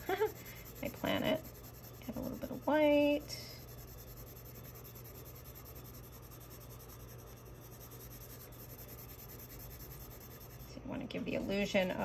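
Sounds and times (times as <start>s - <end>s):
pencil scratching on paper: 0.1s - 10.7s.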